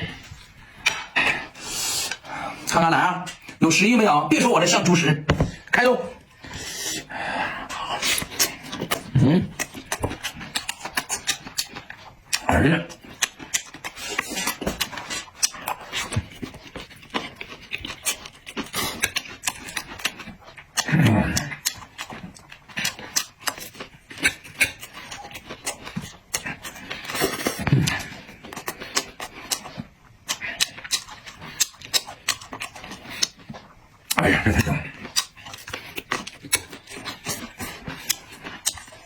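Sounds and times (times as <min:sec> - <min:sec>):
wet chewing: 0:06.2 - 0:39.0.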